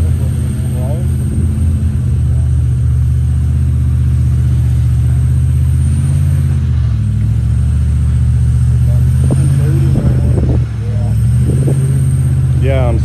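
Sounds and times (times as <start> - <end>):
buggy engine under load: 0.0 - 13.0.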